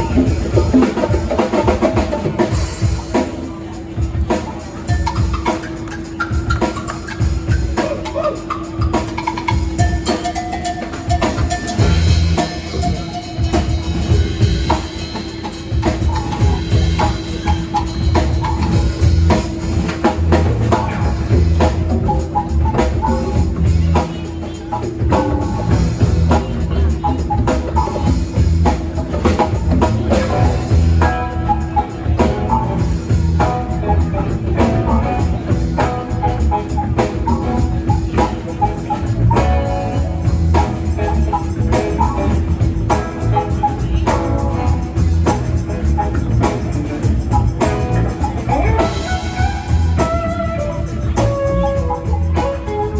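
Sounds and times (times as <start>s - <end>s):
drum kit beat: 0.0s - 52.9s
live band playing instrumental: 0.0s - 52.9s.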